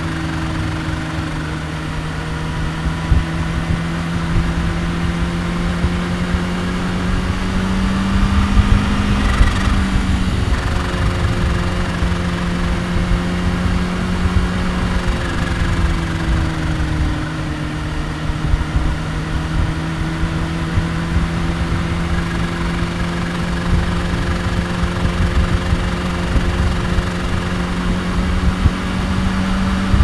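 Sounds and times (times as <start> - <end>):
motorcycle engine running steadily: 0.0 - 30.0.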